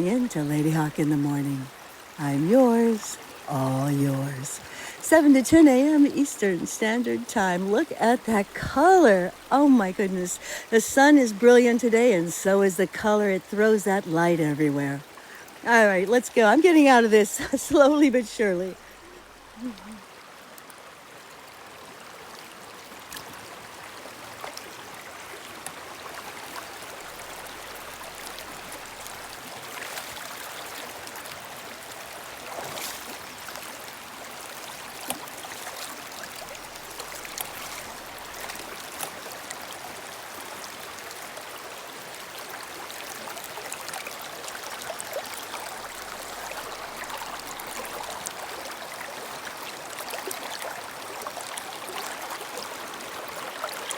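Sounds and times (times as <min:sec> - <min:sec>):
brook flowing over rocks: 0:00.0 - 0:53.9.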